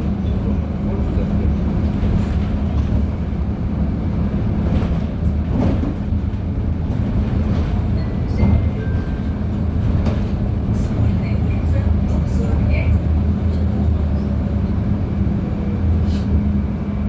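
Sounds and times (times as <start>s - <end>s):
interior rattles and knocks: 0.0s - 14.2s
bus engine and road rumble: 0.0s - 17.0s.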